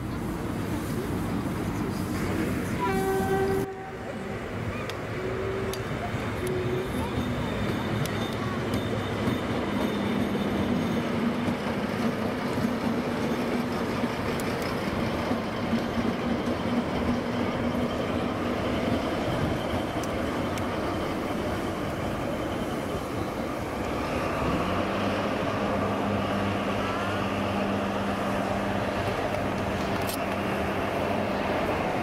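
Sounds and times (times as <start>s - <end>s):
diesel locomotive passing: 0.0s - 32.0s.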